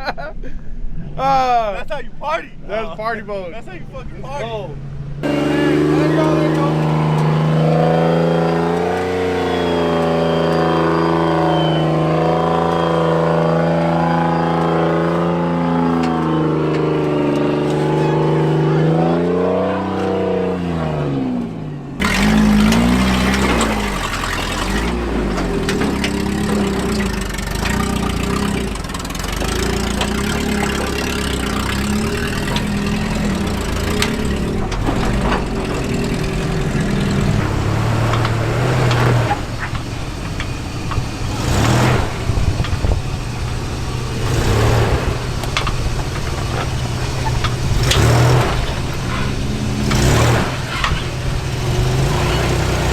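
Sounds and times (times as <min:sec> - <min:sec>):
truck engine revving: 0:04.8 - 0:52.9.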